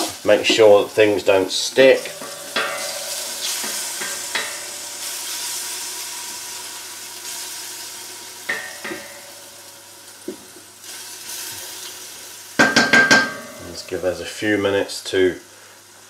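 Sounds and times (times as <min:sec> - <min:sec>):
bacon sizzling in oil: 0:00.0 - 0:16.0.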